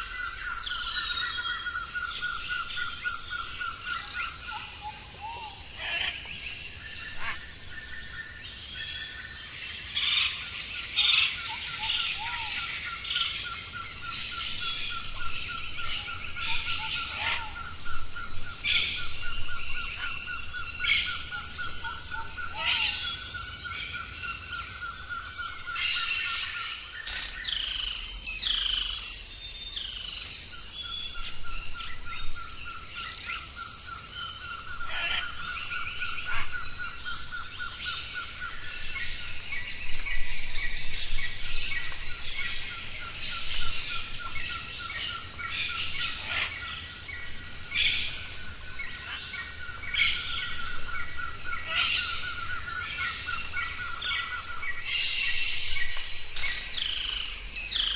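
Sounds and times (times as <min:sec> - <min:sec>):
birds chirping and calling: 0:00.0 - 0:57.9.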